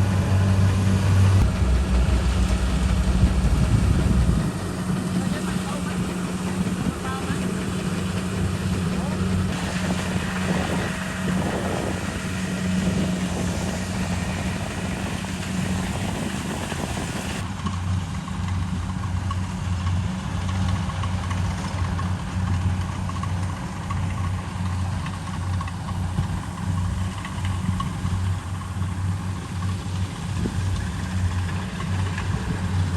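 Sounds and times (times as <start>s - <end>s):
harvester diesel engine humming: 0.0s - 32.9s.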